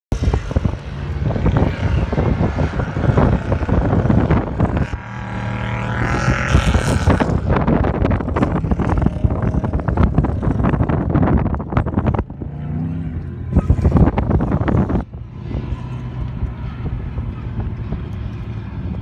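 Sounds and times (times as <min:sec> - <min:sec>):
wind buffeting microphone: 0:00.1 - 0:19.0
off-road vehicle engine revving: 0:00.2 - 0:19.0.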